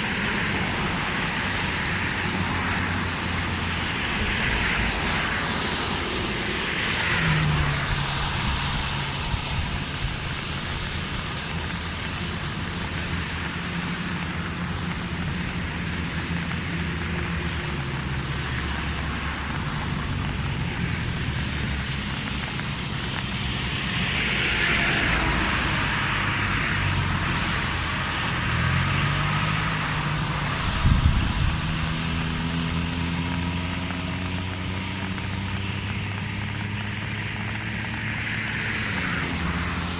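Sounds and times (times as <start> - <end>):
vehicles passing with whoosh: 0.0 - 39.9
vehicle engine running: 2.3 - 39.9.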